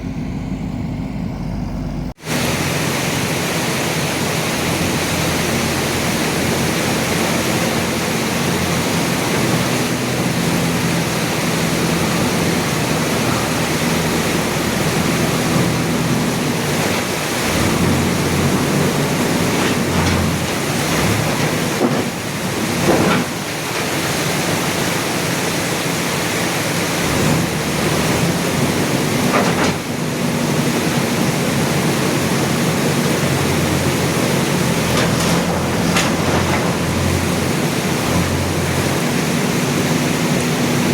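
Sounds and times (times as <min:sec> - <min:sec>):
heavy machine engine running: 0:00.0 - 0:40.9
loud steady rushing noise: 0:00.0 - 0:40.9.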